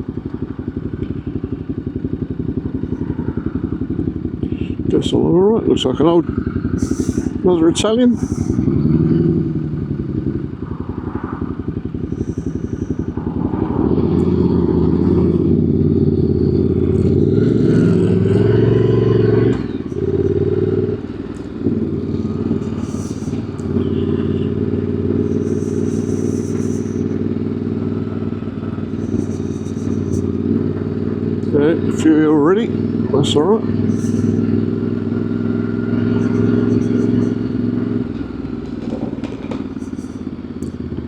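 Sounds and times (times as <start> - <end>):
motorcycle engine under way: 0.0 - 41.0.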